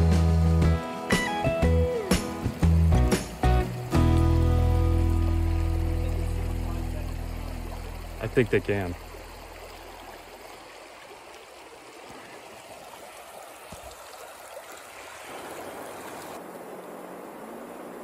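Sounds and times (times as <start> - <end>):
river water running over riffles: 0.0 - 18.0.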